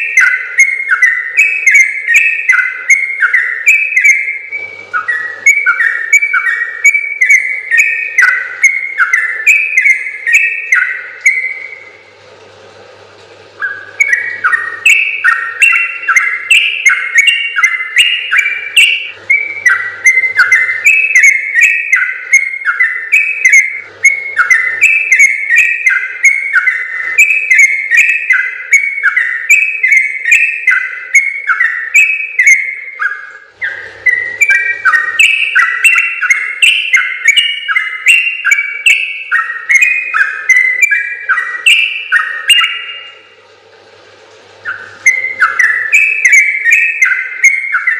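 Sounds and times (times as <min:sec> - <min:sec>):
bird singing whistled notes: 0:00.0 - 0:11.9, 0:13.6 - 0:43.3, 0:44.6 - 0:47.9.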